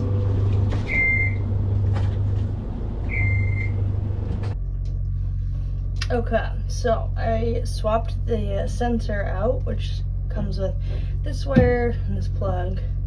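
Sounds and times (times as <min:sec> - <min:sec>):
marine diesel engine running: 0:00.0 - 0:13.0
steady hum: 0:00.0 - 0:13.0.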